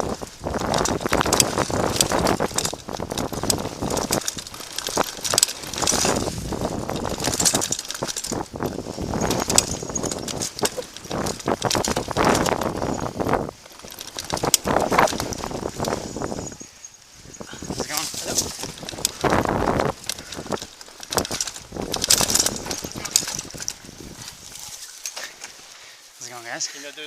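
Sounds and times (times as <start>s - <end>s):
tyre rumble: 0.0s - 25.4s
wind noise: 0.0s - 25.6s
mountain bike rattling: 0.0s - 26.8s.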